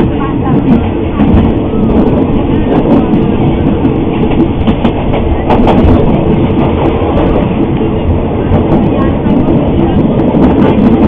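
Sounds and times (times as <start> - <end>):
train running on track: 0.0 - 11.0.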